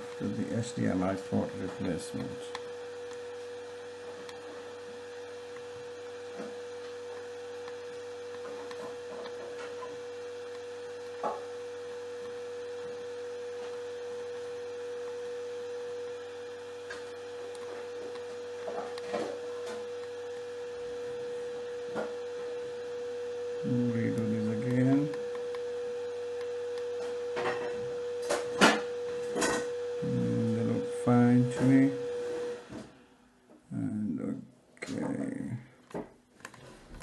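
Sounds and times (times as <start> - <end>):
steady electrical hum: 0.0 - 37.0.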